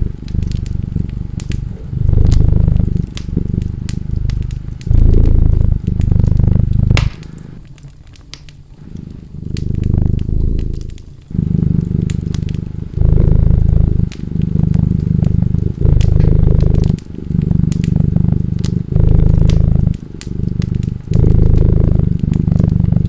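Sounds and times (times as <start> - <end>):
cat purring: 0.0 - 23.0
wood fire crackling: 0.0 - 23.0.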